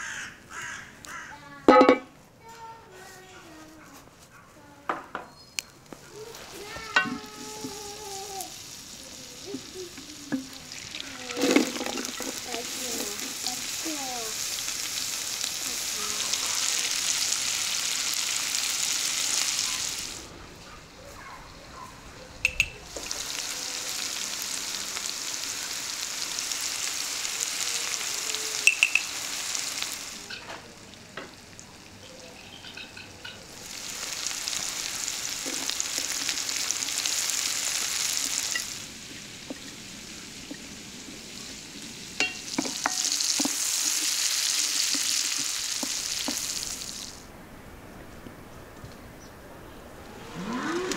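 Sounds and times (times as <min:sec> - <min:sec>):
onions sizzling in frying pan: 0:05.8 - 0:47.3.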